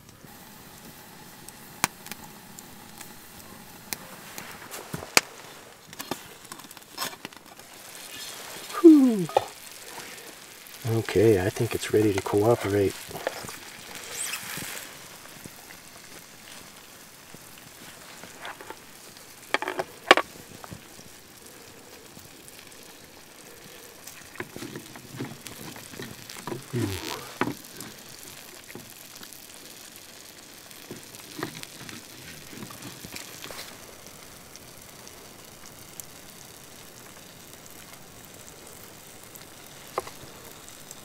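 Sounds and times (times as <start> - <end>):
fish sizzling in oil: 0.0 - 41.0.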